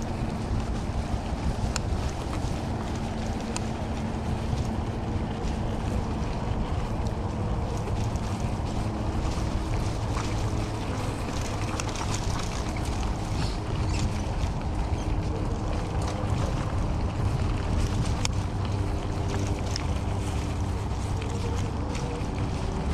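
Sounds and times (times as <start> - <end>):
tyres crackling on dry dirt: 0.0 - 22.9
wind buffeting microphone: 0.0 - 22.9.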